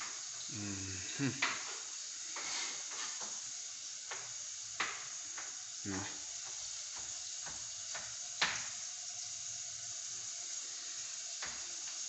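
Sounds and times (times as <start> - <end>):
onions sizzling in a pan: 0.0 - 12.0.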